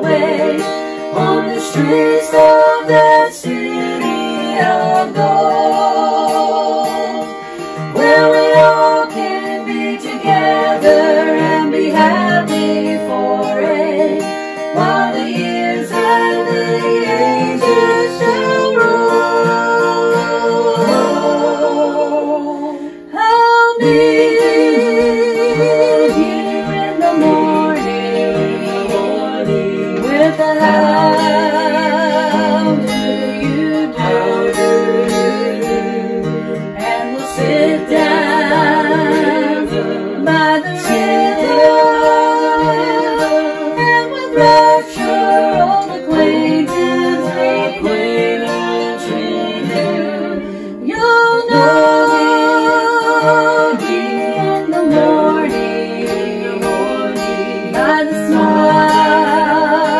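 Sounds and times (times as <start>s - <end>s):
group singing a hymn: 0.0s - 59.9s
strummed acoustic guitar: 0.0s - 59.9s.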